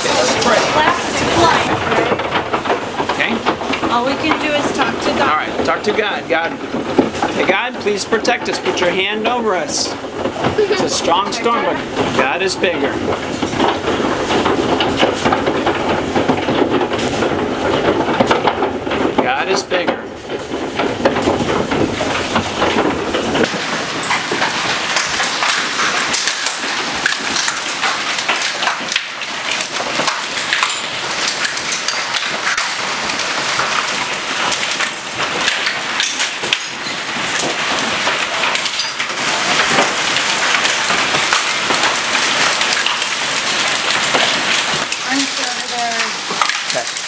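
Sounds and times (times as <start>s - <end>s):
hail and rain storm: 0.0s - 47.0s
hailstones hitting house: 0.0s - 47.0s.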